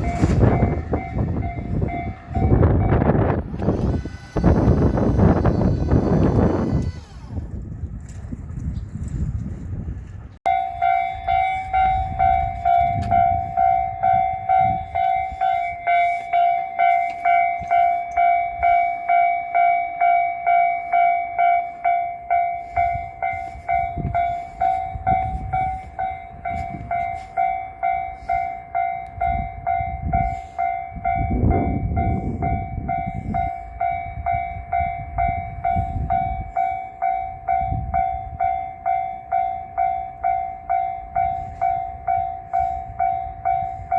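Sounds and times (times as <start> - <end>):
level-crossing warning bell ringing: 0.0 - 7.4, 10.4 - 43.9
train passing with low rumble: 0.0 - 43.9.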